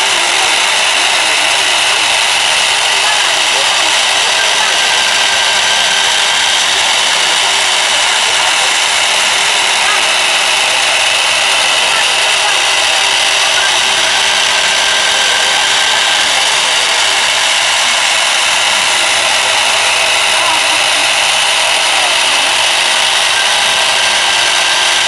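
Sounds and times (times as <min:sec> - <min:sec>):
router spindle high whine: 0:00.0 - 0:25.0
wood being cut: 0:00.0 - 0:25.0.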